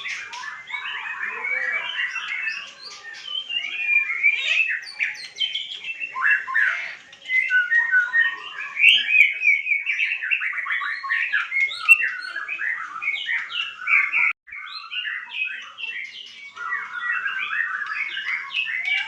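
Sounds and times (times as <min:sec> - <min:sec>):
bird singing whistled notes: 0:00.0 - 0:19.0.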